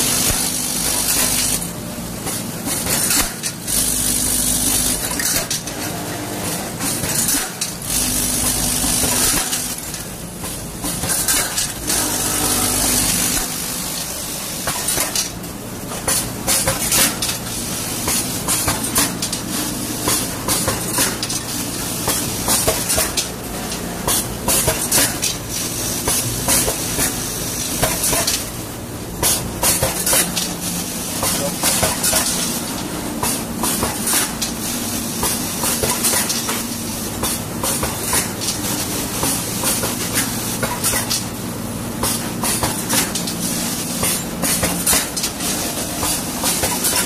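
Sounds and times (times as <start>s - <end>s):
machine clicks and clatter: 0.0s - 47.0s
packing machine humming: 0.0s - 47.0s.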